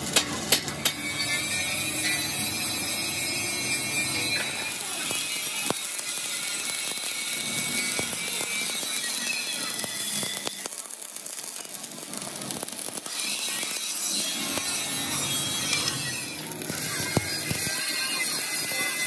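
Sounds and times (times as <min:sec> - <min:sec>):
welding arc crackling and sizzling: 0:00.0 - 0:19.0.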